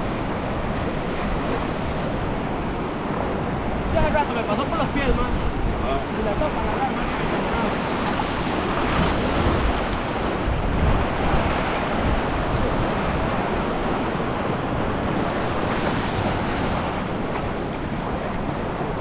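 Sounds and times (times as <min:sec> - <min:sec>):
surf breaking and washing: 0:00.0 - 0:19.0
wind rumble on microphone: 0:00.0 - 0:19.0.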